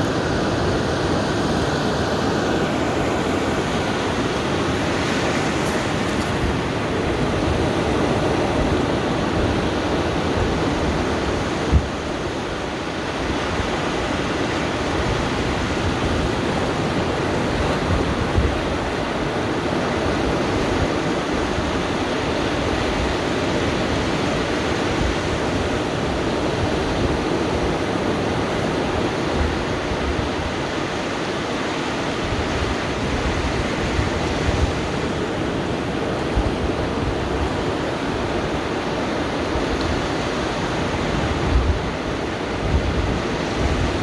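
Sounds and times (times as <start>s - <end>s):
waves washing on beach: 0.0s - 44.0s
wind buffeting microphone: 0.0s - 44.0s.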